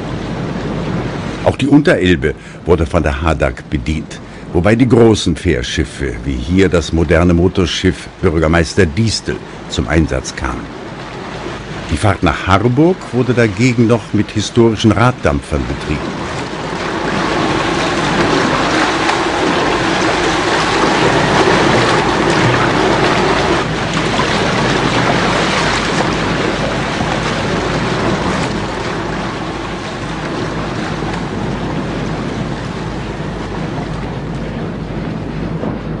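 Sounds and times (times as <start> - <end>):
bow wave splashing: 0.0 - 36.0
ship engine drone: 0.0 - 36.0.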